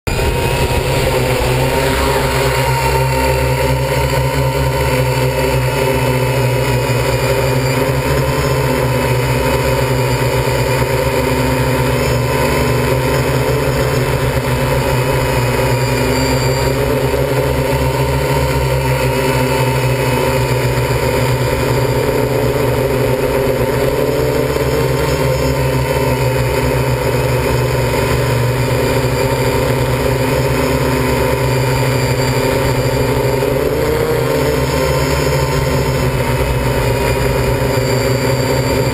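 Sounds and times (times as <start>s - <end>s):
drone motors buzzing: 0.1s - 38.9s.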